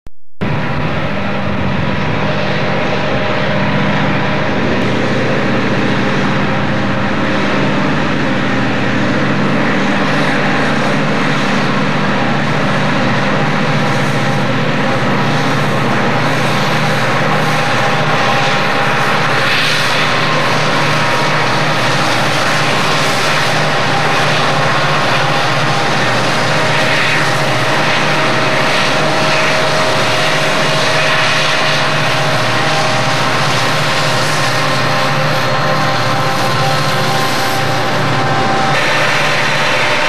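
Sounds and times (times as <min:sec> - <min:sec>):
diesel locomotives humming: 0:00.4 - 0:40.0.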